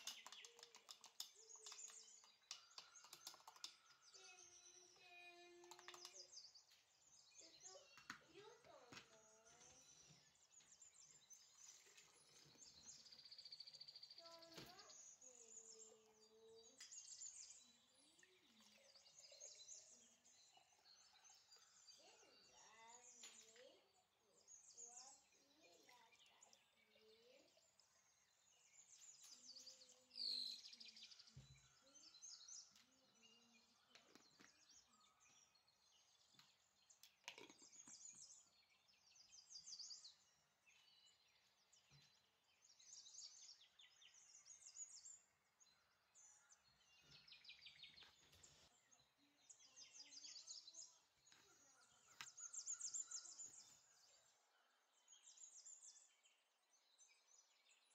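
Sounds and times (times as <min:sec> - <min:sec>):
faint birdsong chirps: 0:00.0 - 0:57.9.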